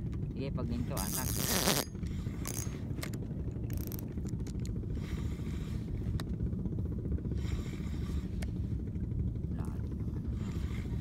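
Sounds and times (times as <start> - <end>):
boat engine low pulse: 0.0 - 11.0.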